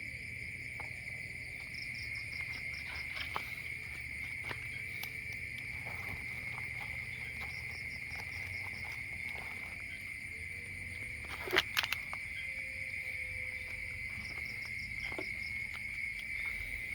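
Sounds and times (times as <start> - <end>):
insects droning: 0.0 - 16.9
pulsing insect trills: 0.0 - 16.9.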